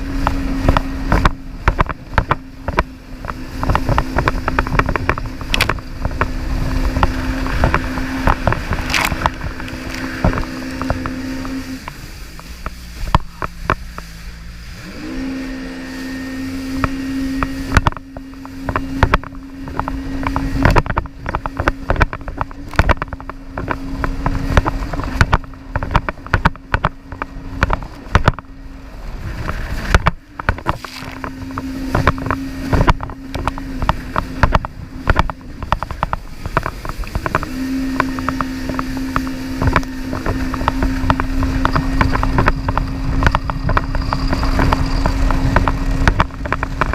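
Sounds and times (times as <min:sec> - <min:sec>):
jet ski engine running: 0:00.0 - 0:46.9
knocks and water splashes: 0:00.0 - 0:46.9.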